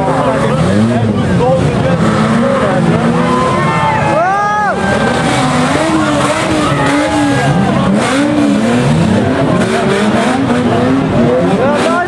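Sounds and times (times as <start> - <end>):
car engines revving: 0.0 - 12.0
track noise: 0.0 - 12.0.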